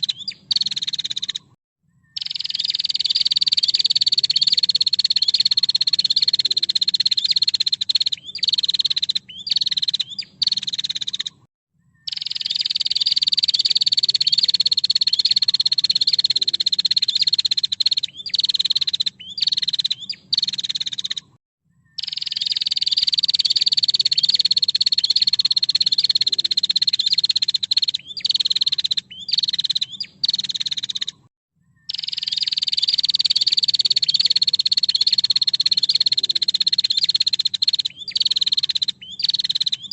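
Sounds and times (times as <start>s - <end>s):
bird rattling trill call: 0.0s - 1.5s, 2.2s - 11.4s, 12.1s - 21.3s, 22.0s - 31.2s, 31.9s - 39.9s
choppy stuttered bird calls: 0.0s - 1.6s, 2.2s - 21.4s, 22.0s - 39.9s.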